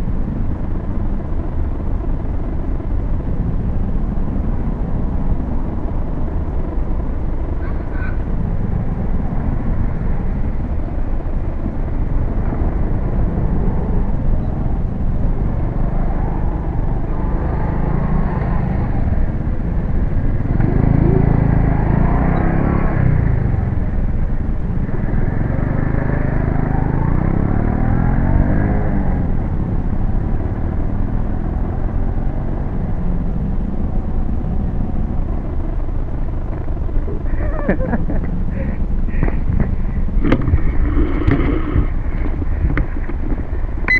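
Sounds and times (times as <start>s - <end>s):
steady low rumble: 0.0s - 43.9s
motorcycle passing: 7.4s - 43.9s.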